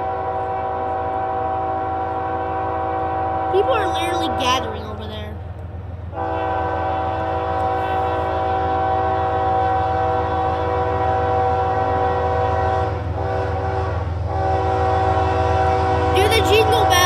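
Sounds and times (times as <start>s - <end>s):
locomotive air horn: 0.0s - 4.0s, 6.1s - 17.0s
low train rumble: 0.0s - 17.0s.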